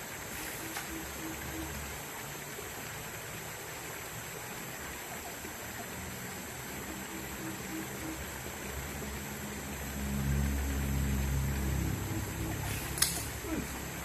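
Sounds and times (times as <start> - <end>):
river water rushing over rapids: 0.0 - 14.0.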